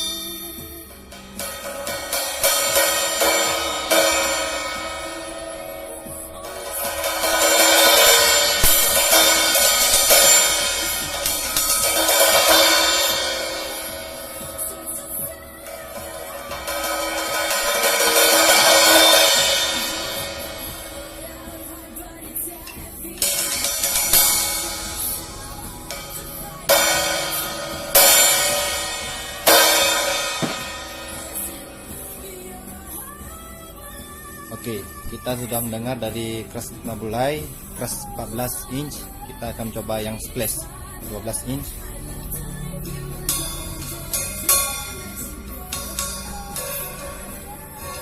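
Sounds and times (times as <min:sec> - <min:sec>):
crash cymbal struck: 0:00.0 - 0:48.0.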